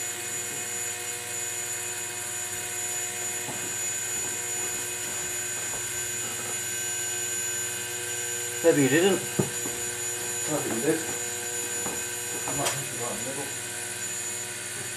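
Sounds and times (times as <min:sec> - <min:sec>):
high spindle motor whine: 0:00.0 - 0:14.9.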